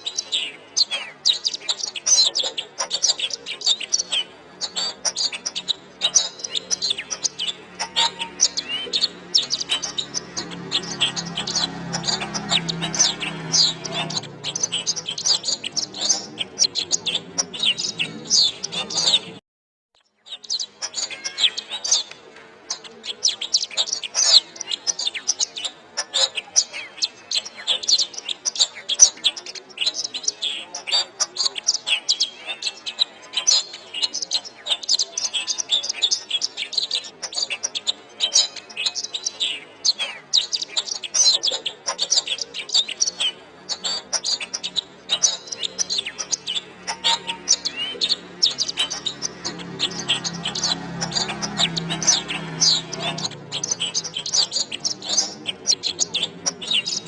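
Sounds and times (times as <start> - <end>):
canary singing: 0.0 - 19.4, 20.0 - 57.0.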